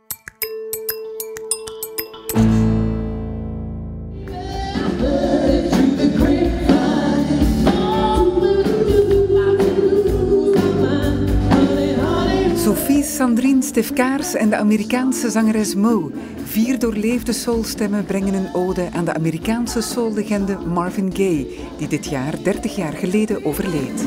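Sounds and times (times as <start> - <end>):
soul song with singing and band: 4.2 - 24.0.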